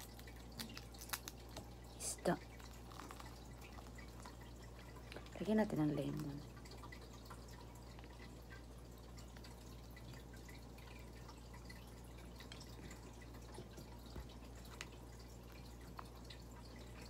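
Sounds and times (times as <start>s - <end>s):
faint drips: 0.0s - 17.0s
low steady hum: 0.0s - 17.0s.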